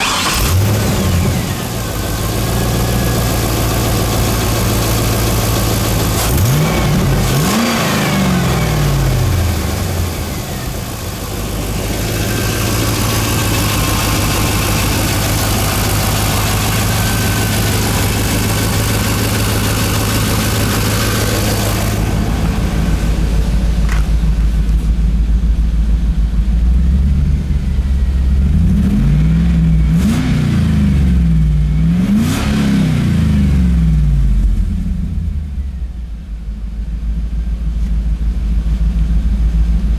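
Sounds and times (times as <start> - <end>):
engine revving: 0.0 - 24.9, 26.8 - 35.4
car engine idling: 0.0 - 32.2, 33.2 - 39.9.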